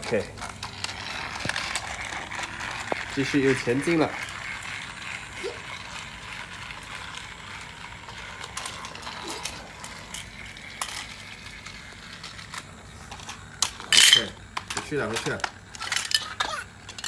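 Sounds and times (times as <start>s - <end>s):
toy train motor whirring: 0.0s - 17.0s.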